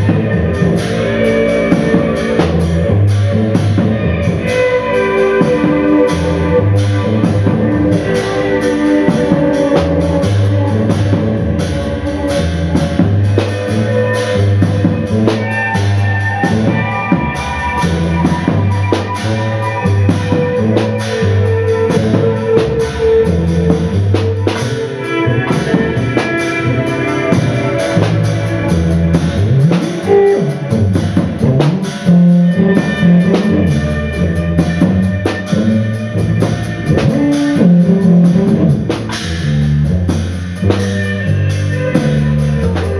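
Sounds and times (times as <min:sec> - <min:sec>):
drum kit playing busily: 0:00.0 - 0:42.9
guitar: 0:00.0 - 0:42.9
low bass line: 0:00.0 - 0:42.9.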